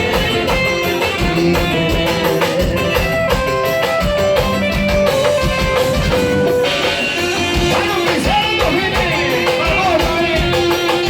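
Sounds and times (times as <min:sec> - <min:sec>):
guitar-like lead melody: 0:00.0 - 0:11.0
steady drum beat: 0:00.0 - 0:11.0.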